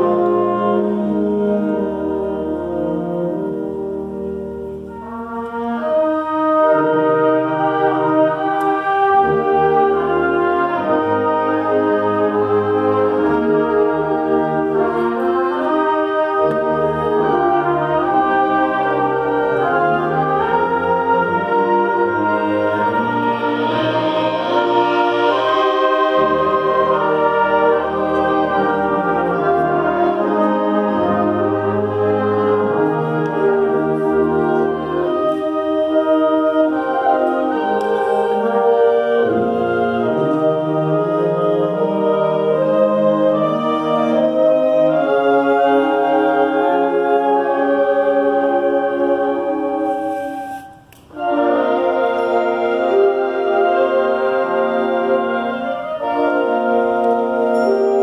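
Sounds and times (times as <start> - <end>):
concert band playing: 0.0 - 58.0.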